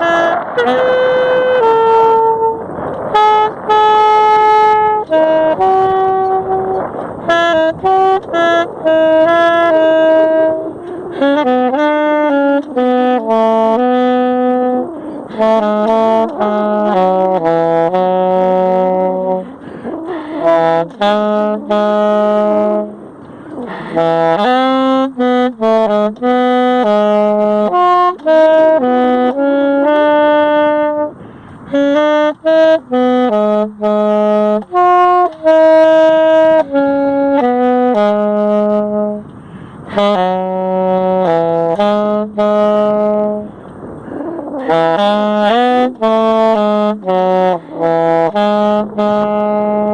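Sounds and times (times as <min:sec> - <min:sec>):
solo saxophone improvising: 0:00.0 - 0:49.9.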